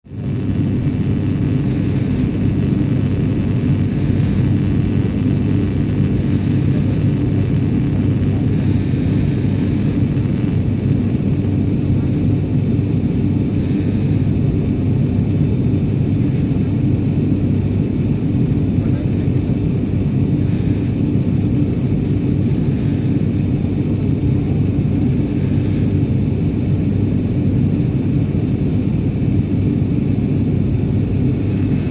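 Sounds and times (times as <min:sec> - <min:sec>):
airliner engines rumbling: 0:00.0 - 0:31.9
rushing air: 0:00.1 - 0:31.9.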